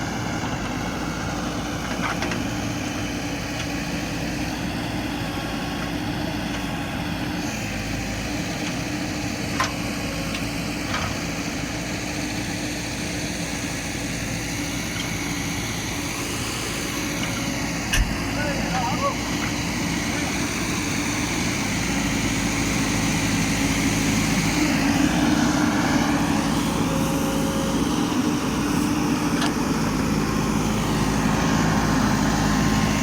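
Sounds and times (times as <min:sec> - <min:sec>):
diesel engine running steadily: 0:00.0 - 0:33.0.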